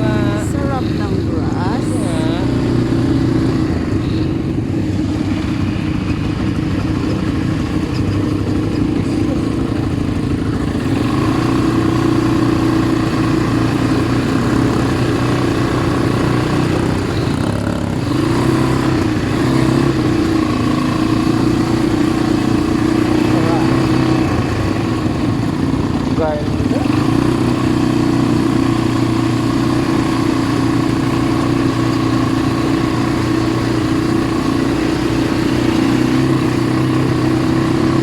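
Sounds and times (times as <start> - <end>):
quad bike engine running: 0.0 - 38.0.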